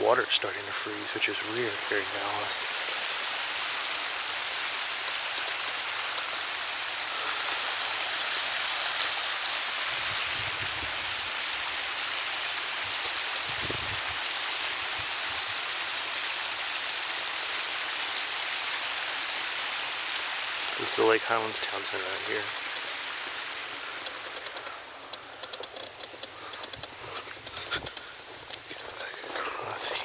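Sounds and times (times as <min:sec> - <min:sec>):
creek water rushing: 0:00.0 - 0:30.0.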